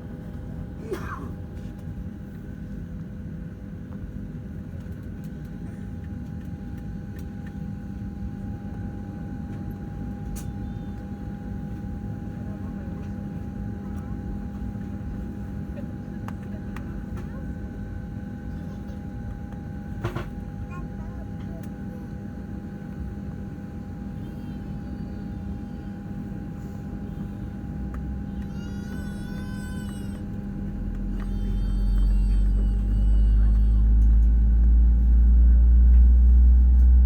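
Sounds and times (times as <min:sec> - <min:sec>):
airplane cabin hum: 0:00.0 - 0:37.0
constant whining tones: 0:04.6 - 0:37.0.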